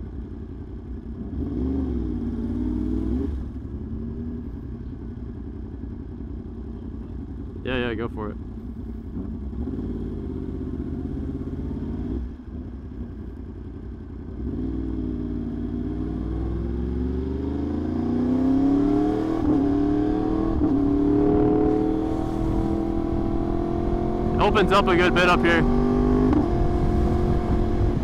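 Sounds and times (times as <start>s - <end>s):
motorcycle engine accelerating: 0.0s - 28.0s
quick gear upshifts: 0.6s - 28.0s.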